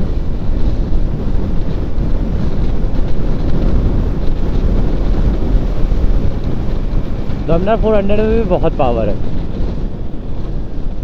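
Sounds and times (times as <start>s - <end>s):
wind buffeting helmet microphone: 0.0s - 11.0s.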